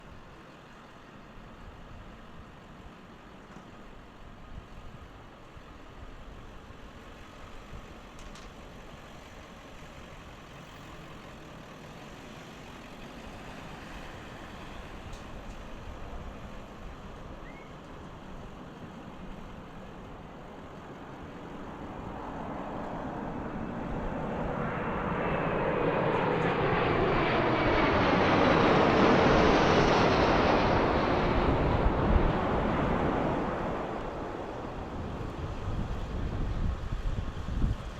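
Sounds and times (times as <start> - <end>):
jet engines approaching with whine: 0.0 - 37.9.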